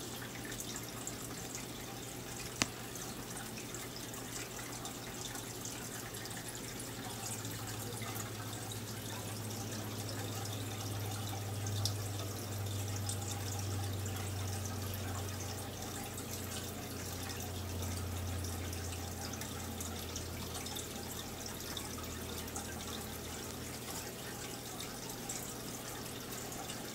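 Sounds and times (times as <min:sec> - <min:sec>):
aquarium water bubbling: 0:00.0 - 0:26.9
low steady hum: 0:00.0 - 0:26.9.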